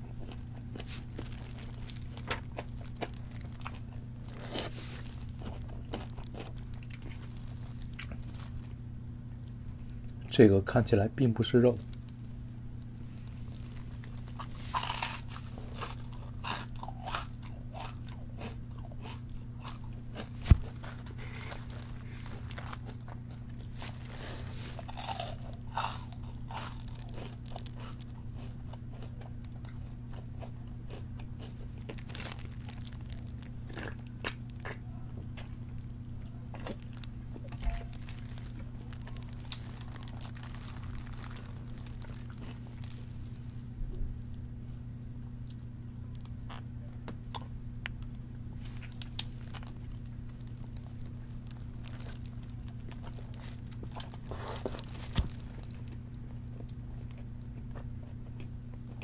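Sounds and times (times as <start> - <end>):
crunching fried chicken: 0.0 - 10.3, 11.5 - 43.8, 47.3 - 59.0
steady low hum: 0.0 - 59.0.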